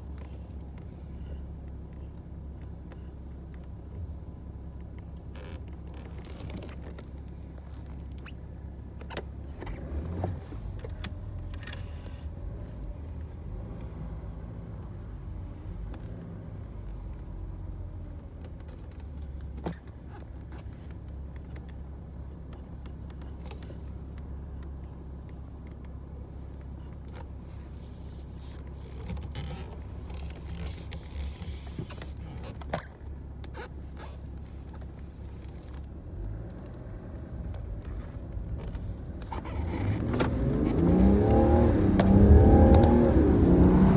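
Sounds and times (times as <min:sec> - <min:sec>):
car engine and road drone: 0:00.0 - 0:43.9.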